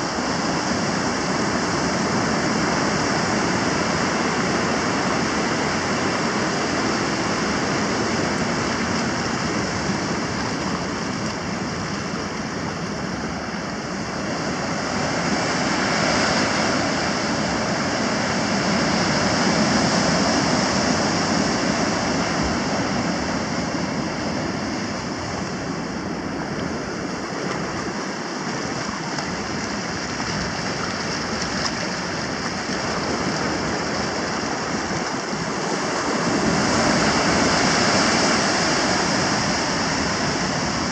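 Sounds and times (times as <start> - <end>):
creek water rushing: 0.0 - 40.9
ocean surf breaking: 0.0 - 40.9.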